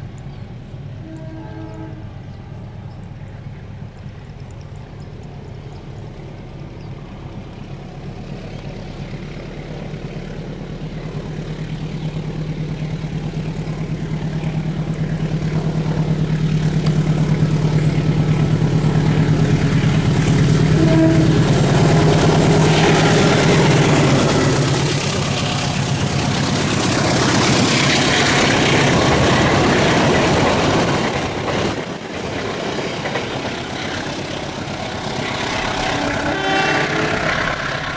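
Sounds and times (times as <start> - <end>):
diesel locomotive engine drone: 0.0 - 37.9
train carriages rattling: 0.0 - 37.9.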